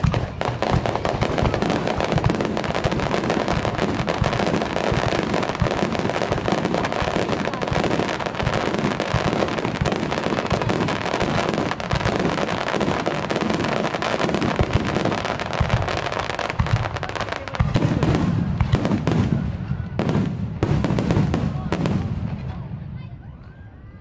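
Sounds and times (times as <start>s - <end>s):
deep fireworks booms: 0.0s - 23.2s
fireworks bursting: 0.0s - 23.7s
fireworks crackling: 0.0s - 23.7s.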